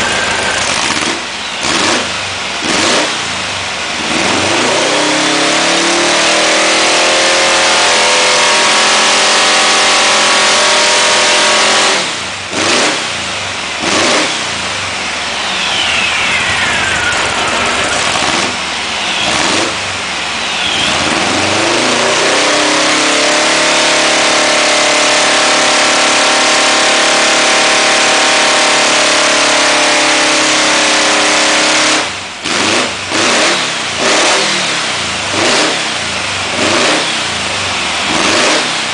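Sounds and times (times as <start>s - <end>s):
buggy engine revving hard: 0.0s - 14.8s, 19.2s - 19.9s, 20.8s - 38.9s
engine throttle blips: 0.0s - 38.9s.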